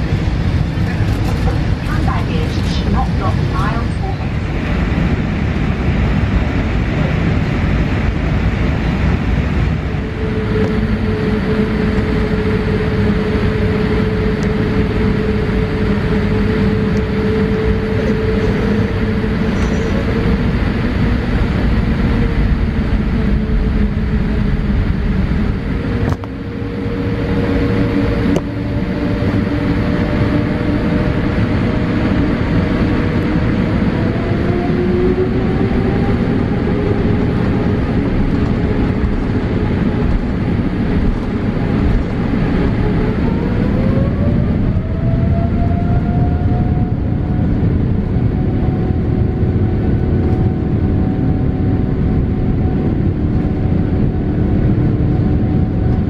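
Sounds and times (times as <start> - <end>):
engine whine: 0.0 - 56.0
jet engines rumbling: 0.0 - 56.0.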